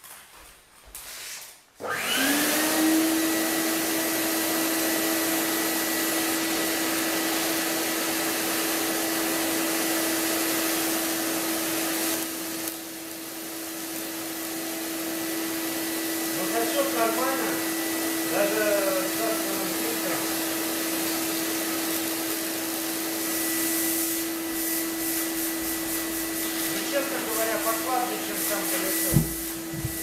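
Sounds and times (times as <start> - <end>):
vacuum cleaner running: 0.9 - 30.0.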